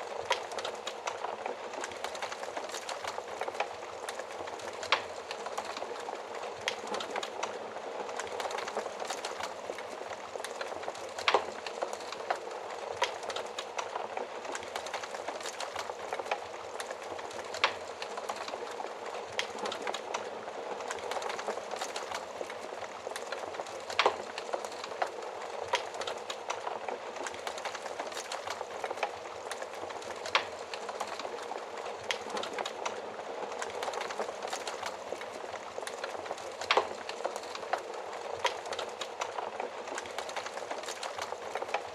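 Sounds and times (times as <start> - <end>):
fire crackling and popping: 0.0 - 41.9
wood fire rushing flames: 0.0 - 41.9.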